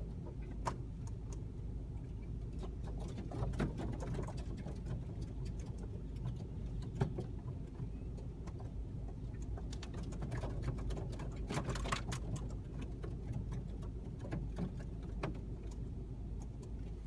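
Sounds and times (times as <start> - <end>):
birds ticking and clicking: 0.0 - 17.0
car engine rumble: 0.0 - 17.0.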